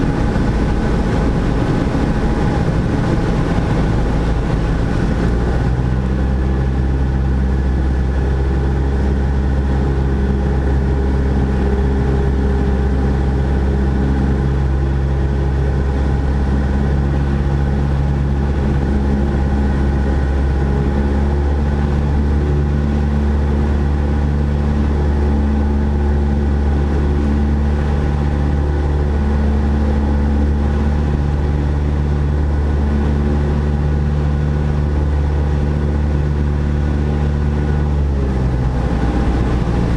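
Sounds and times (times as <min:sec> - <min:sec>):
small plane engine and propeller: 0:00.0 - 0:39.9.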